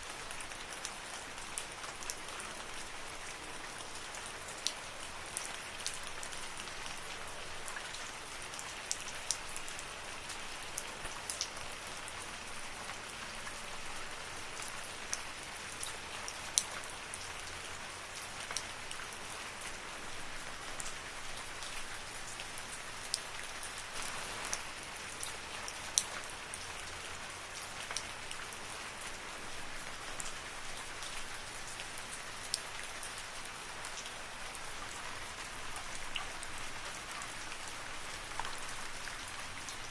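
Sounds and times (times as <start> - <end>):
rain falling in forest: 0.0 - 39.9
raindrops striking close by: 0.0 - 39.9.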